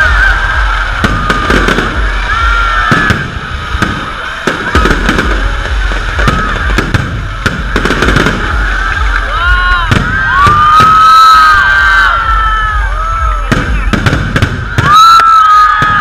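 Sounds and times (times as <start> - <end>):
continuous rumble: 0.0 - 14.9
fireworks bursting bangs: 0.0 - 16.0.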